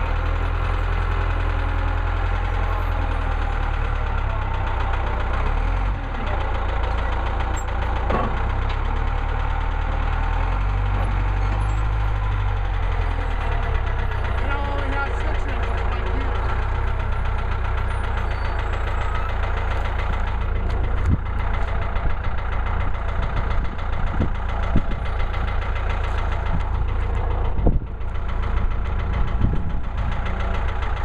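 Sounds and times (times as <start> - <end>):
sawmill engine running: 0.0 - 31.0.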